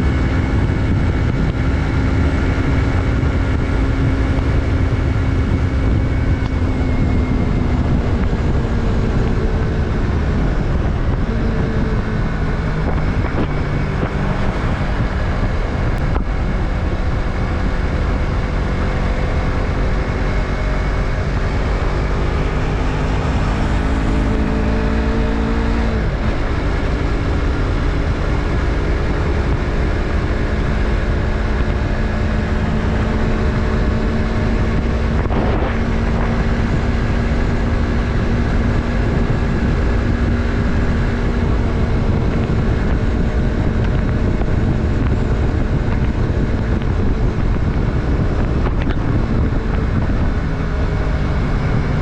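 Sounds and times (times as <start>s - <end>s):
motorcycle engine: 0.0s - 52.0s
wind rumbling on microphone: 0.0s - 52.0s.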